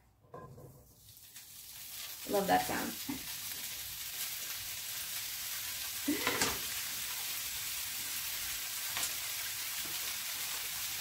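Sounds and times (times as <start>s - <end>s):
sausage sizzling in frying pan: 0.8s - 11.0s.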